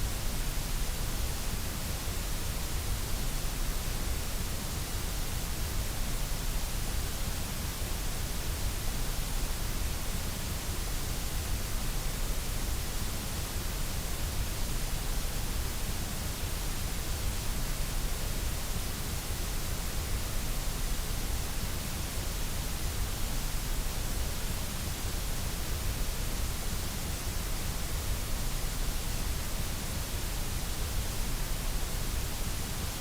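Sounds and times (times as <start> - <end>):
white noise hiss: 0.0 - 33.0.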